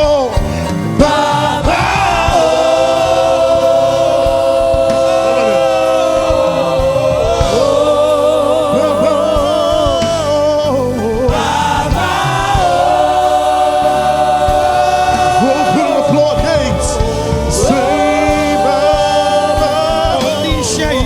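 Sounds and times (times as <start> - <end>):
choir singing sustained notes: 0.8 - 21.0.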